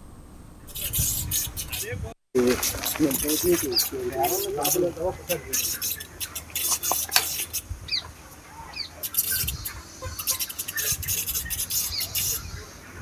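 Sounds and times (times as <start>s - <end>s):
chicks peeping: 0.0s - 13.0s
chickens clicking and rustling: 2.4s - 12.9s.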